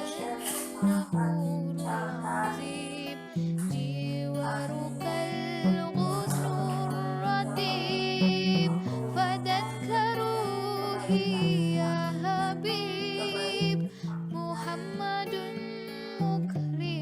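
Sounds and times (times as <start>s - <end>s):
plucked guitar-like melody: 0.0s - 17.0s.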